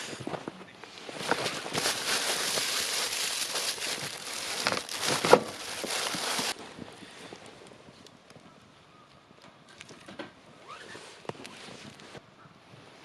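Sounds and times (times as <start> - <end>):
crinkling crackling rustle: 0.0 - 12.2.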